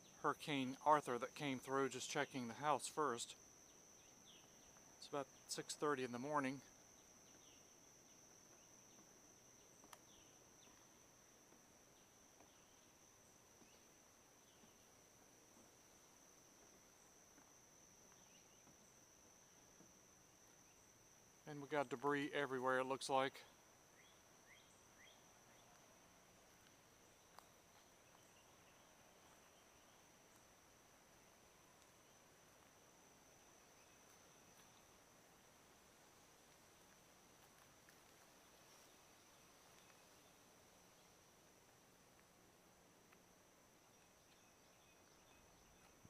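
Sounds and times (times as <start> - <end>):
insect high-pitched trill: 0.0 - 46.0.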